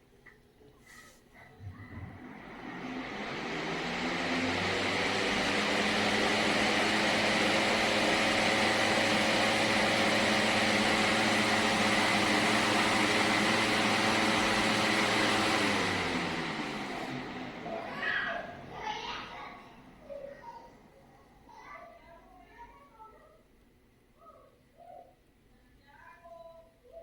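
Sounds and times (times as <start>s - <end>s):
box fan running: 0.0s - 22.7s.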